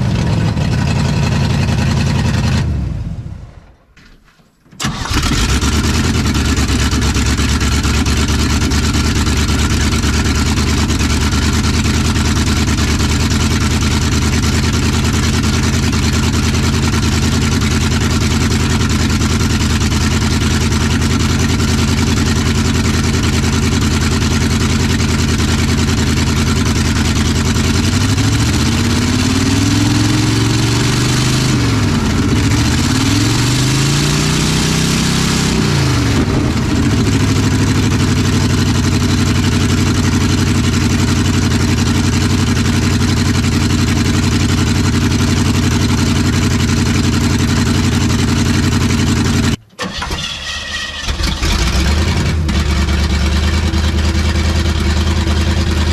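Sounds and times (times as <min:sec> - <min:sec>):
car engine idling and revving: 0:00.0 - 0:03.8, 0:04.8 - 0:50.0, 0:50.7 - 0:55.9.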